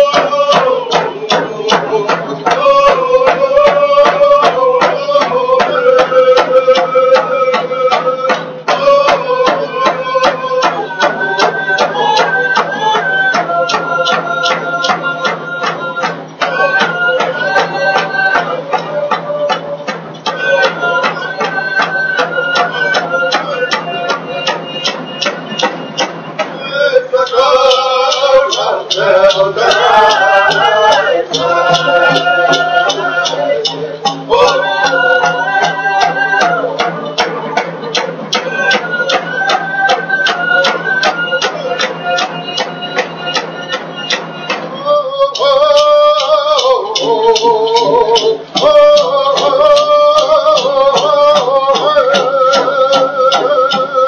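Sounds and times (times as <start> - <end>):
steady drumbeat: 0.0 - 54.0
voices singing together: 0.0 - 54.0.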